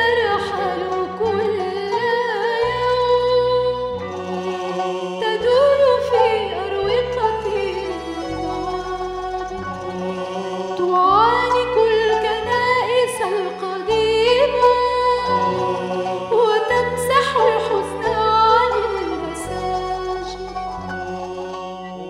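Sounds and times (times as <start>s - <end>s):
woman singing a hymn: 0.0s - 4.0s, 5.2s - 9.6s, 10.8s - 20.6s.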